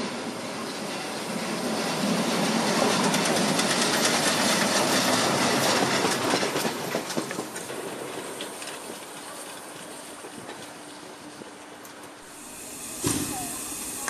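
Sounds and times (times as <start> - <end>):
train wheels clattering on rails: 0.0 - 12.2.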